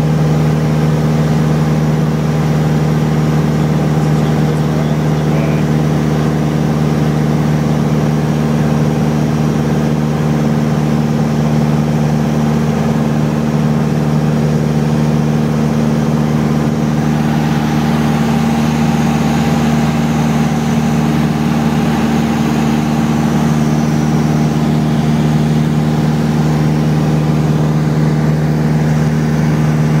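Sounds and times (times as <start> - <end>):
light aircraft engine droning: 0.0 - 30.0.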